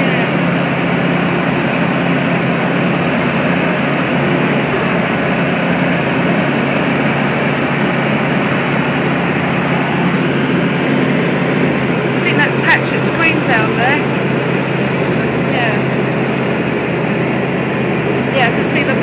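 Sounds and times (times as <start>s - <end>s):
rushing airflow: 0.0s - 19.0s
small plane engine droning: 0.0s - 19.0s.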